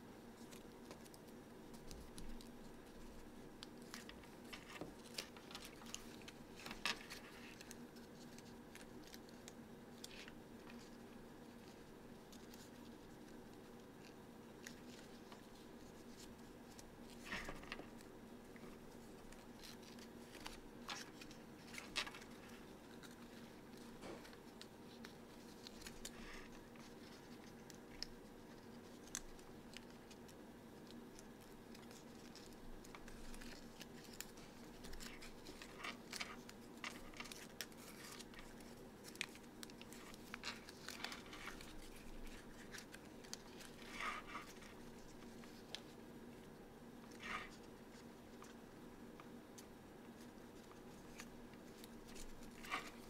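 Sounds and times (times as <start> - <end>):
paper being folded by hand: 0.2 - 53.0.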